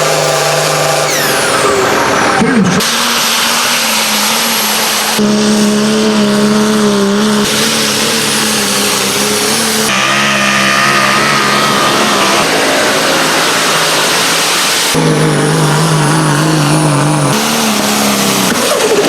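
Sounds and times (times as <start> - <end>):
tractor engines revving high: 0.0 - 19.0.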